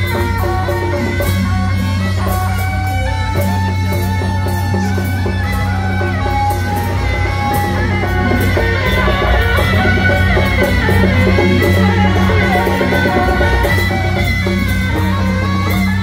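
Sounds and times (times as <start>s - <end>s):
melodic instruments over percussion: 0.0s - 16.0s.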